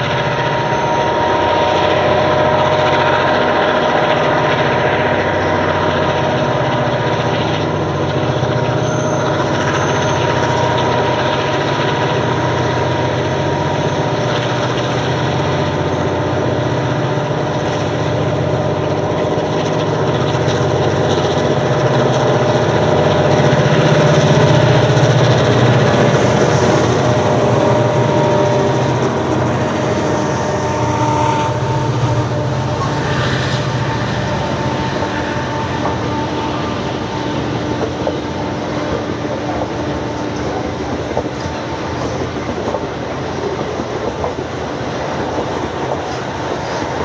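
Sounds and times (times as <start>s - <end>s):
constant whine: 0.0s - 47.0s
diesel locomotive engine drone: 0.0s - 47.0s.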